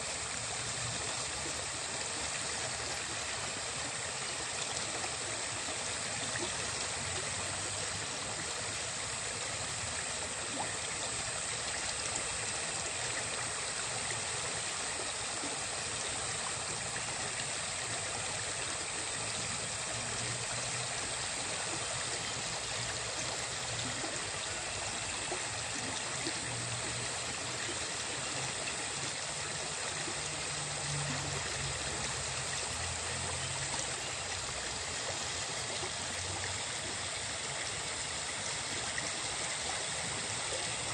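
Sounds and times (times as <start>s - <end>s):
water splashing into pond: 0.0s - 40.9s.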